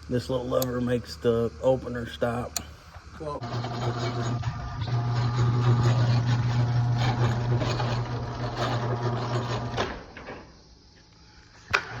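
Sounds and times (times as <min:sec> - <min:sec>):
garage door opener motor hum: 0:00.0 - 0:10.6.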